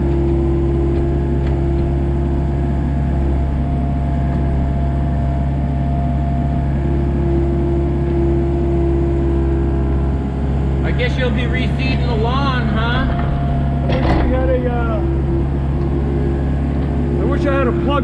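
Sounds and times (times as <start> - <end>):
engine whine: 0.0 - 18.0
excavator diesel engine running: 0.0 - 18.0.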